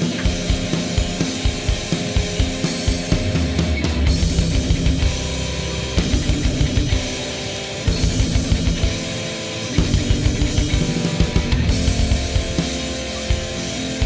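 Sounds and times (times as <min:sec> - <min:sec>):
rock music with drums and guitar: 0:00.0 - 0:14.0.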